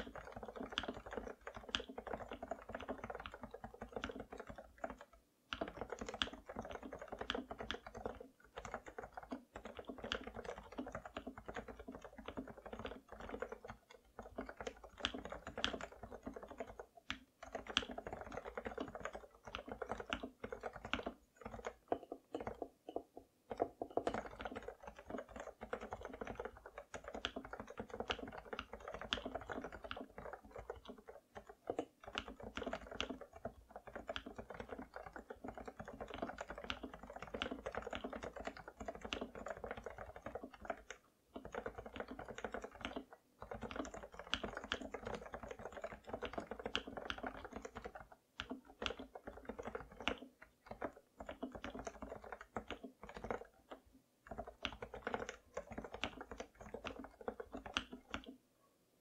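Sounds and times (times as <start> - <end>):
keyboard typing: 0.0 - 58.4.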